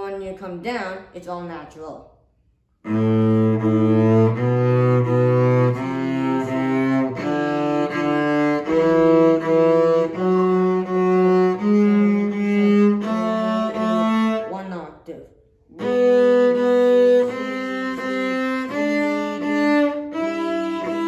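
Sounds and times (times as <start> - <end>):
cello playing rising scale: 2.8 - 14.5, 15.7 - 21.0.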